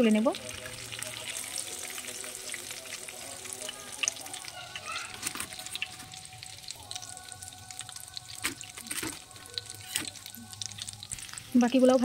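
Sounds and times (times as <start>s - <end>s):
bread deep-frying in hot oil: 0.0s - 12.0s.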